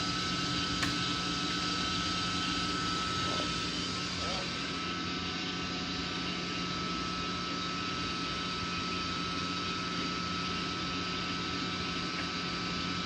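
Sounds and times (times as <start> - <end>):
pump electric motor running: 0.0 - 13.0.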